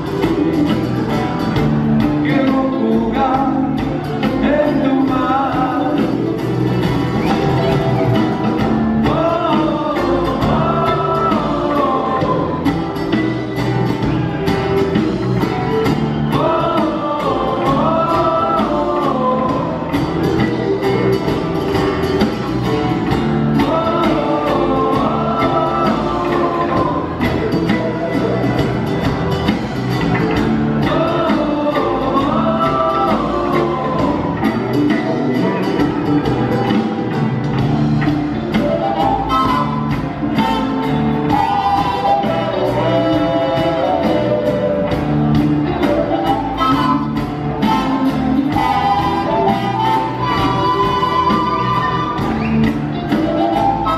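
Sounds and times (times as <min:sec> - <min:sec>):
guitars and bass: 0:00.0 - 0:53.9
lead melody line: 0:00.0 - 0:53.9
steady drum beat: 0:00.0 - 0:53.9.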